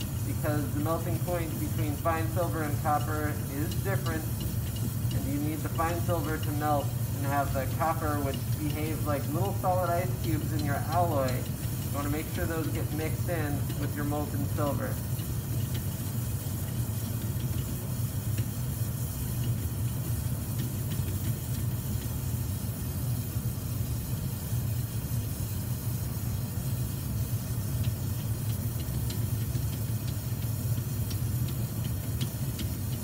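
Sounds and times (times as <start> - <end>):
torch flame rumbling and hissing: 0.0 - 33.0.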